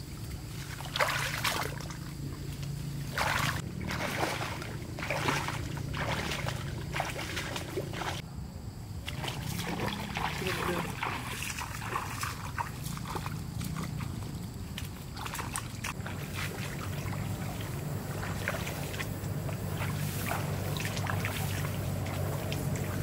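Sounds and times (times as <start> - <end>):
shallow water sloshing: 0.0 - 8.2, 9.0 - 23.0
low hum: 0.0 - 23.0
small splashes and clicks: 0.2 - 8.2, 9.0 - 23.0.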